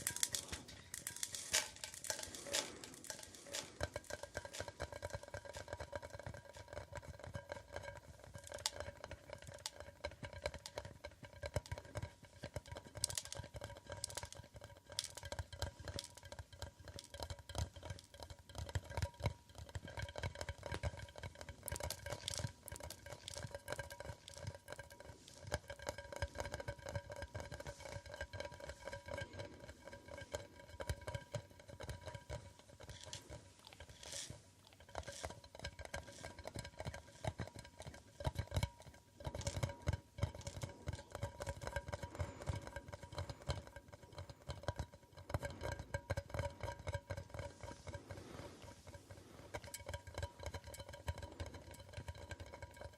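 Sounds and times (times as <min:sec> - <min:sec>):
faint steady ring: 0:00.0 - 0:52.9
rapid tapping on an object: 0:00.0 - 0:52.9.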